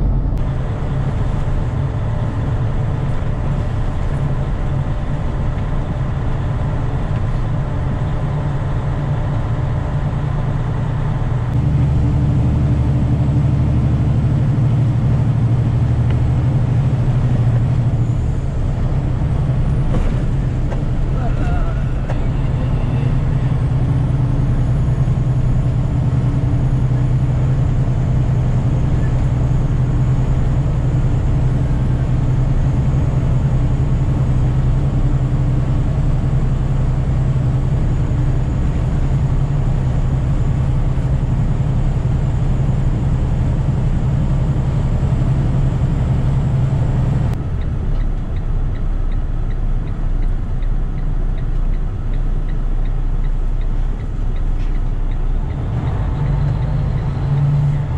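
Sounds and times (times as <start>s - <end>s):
truck engine and road noise: 0.0s - 57.9s.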